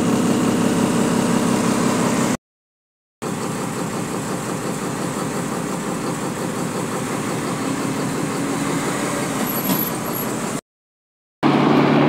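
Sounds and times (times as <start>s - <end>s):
diesel truck engine running: 0.0s - 2.4s, 3.2s - 10.6s, 11.4s - 12.0s.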